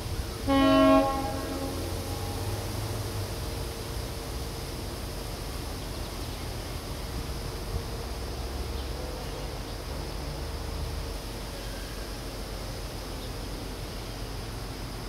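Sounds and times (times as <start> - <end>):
distant diesel locomotive rumbling: 0.0 - 15.0.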